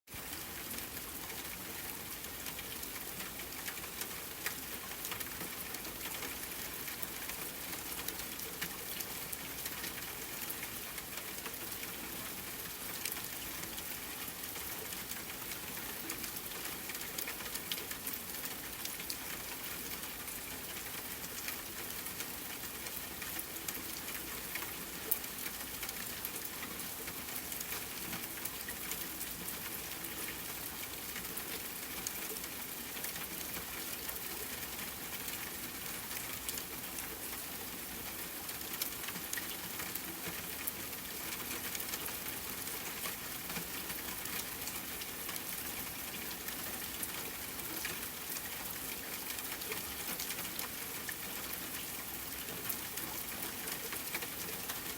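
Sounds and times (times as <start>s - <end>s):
steady rainfall hiss: 0.2s - 54.9s.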